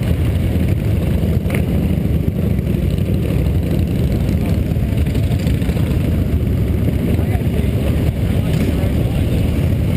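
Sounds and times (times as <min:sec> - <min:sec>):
motorcycles rumbling: 0:00.0 - 0:09.9.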